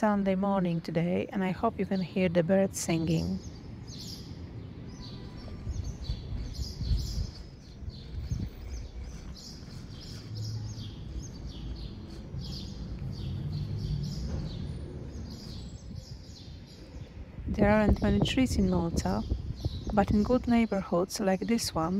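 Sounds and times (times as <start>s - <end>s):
songbirds chirping and singing: 0.2s - 21.9s.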